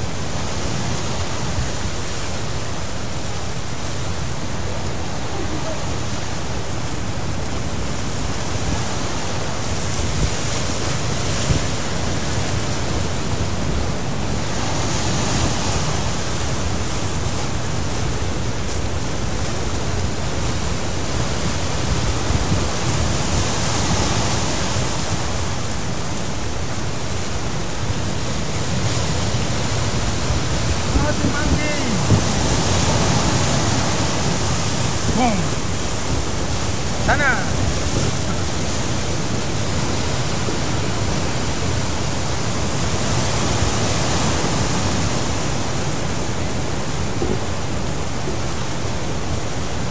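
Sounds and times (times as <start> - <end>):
ocean surf breaking: 0.0 - 49.9
wind buffeting microphone: 0.0 - 49.9.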